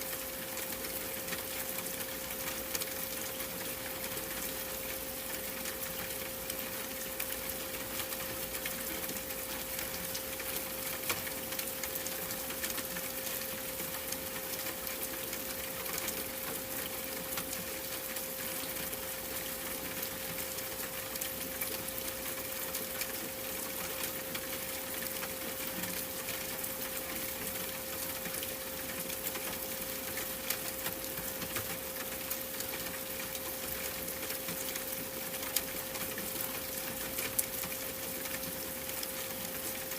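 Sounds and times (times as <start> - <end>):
rain-like hiss with ticks: 0.0 - 39.9.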